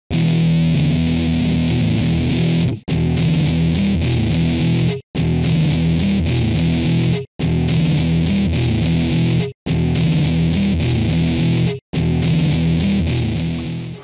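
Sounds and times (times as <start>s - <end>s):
distorted electric guitar music: 0.1s - 14.0s.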